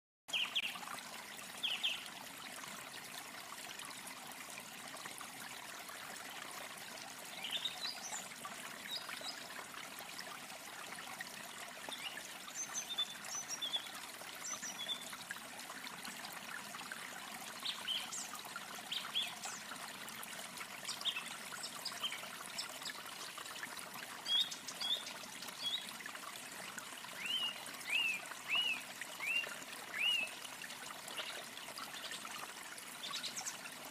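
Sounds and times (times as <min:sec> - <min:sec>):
running water stream: 0:00.3 - 0:33.9.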